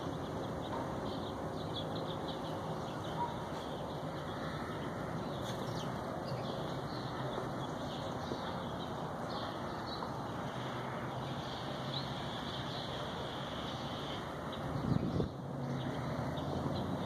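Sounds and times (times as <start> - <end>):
small birds chirping: 0.0 - 17.0
steady background hiss: 0.0 - 17.0.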